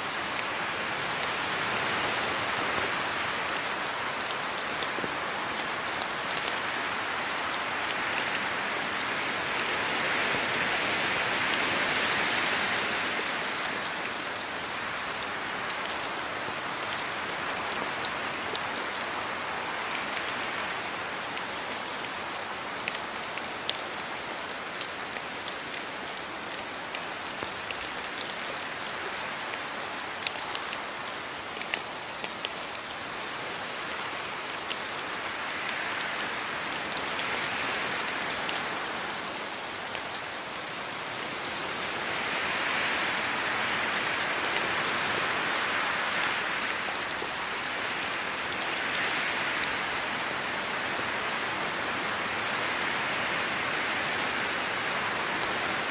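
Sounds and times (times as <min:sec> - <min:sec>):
rain falling: 0:00.0 - 0:55.9
raindrops ticking on surfaces: 0:00.0 - 0:55.9.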